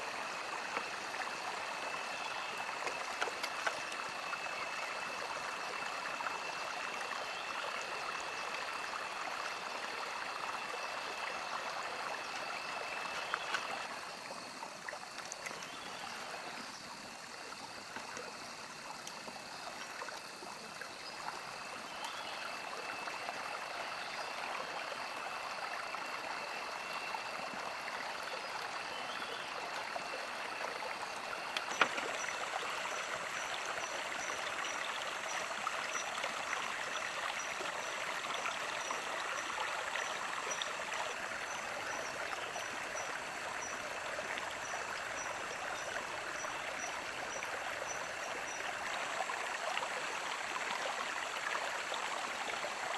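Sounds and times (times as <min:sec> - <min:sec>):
mountain stream running: 0:00.0 - 0:52.9.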